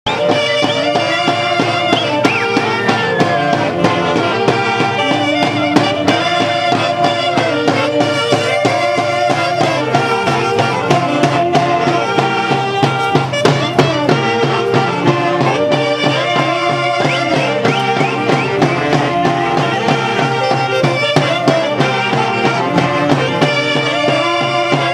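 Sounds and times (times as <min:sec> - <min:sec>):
wind instruments melody: 0:00.0 - 0:24.9
drum strikes: 0:00.1 - 0:24.9.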